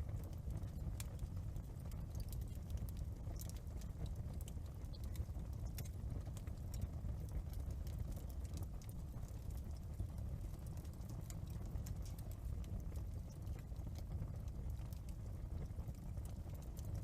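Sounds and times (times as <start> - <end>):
low rumble of burning: 0.0 - 17.0
wood fire pops and snaps: 0.0 - 17.0.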